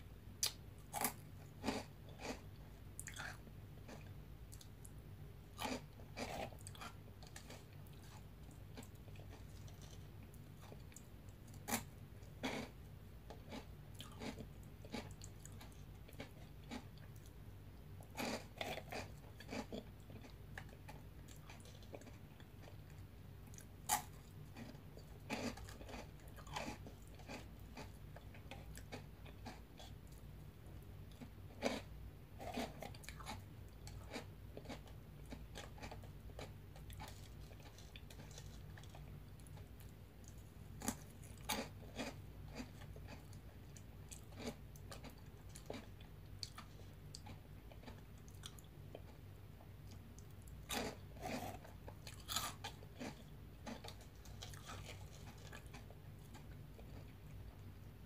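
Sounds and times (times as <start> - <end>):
crunchy chewing: 0.4 - 4.7, 5.5 - 17.4, 18.0 - 57.8.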